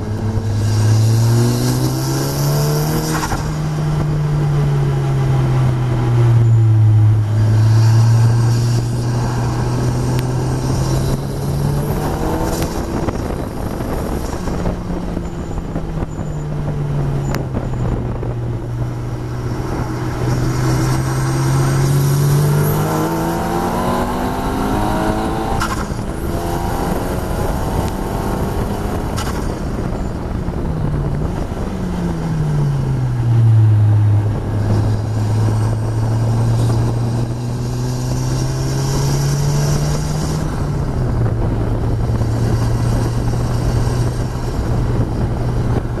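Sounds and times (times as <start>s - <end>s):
race car engine: 0.0s - 46.0s
wind and road noise: 0.0s - 46.0s.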